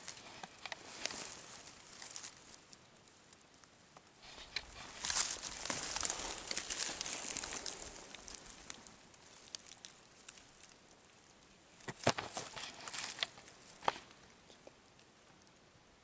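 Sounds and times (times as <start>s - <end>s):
dry bark and wood crackling: 0.0s - 15.7s.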